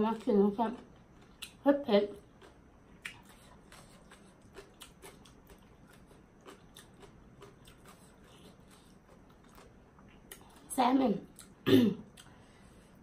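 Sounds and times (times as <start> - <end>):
person chewing food: 0.9 - 1.6, 2.2 - 10.7, 11.3 - 13.0.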